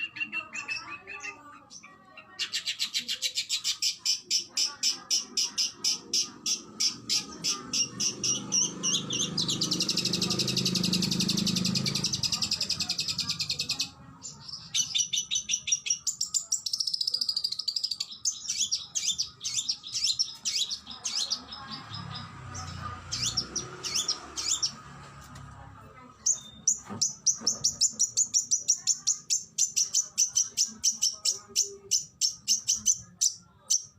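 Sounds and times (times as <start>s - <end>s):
songbird singing: 0.0s - 25.0s, 26.1s - 33.9s.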